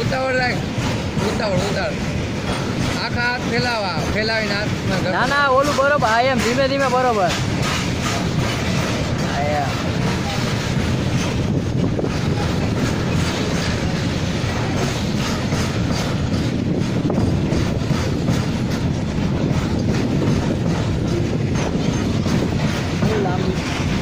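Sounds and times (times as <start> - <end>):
goods train rumbling past: 0.0 - 24.0
wheels clacking over rail joints: 0.0 - 24.0.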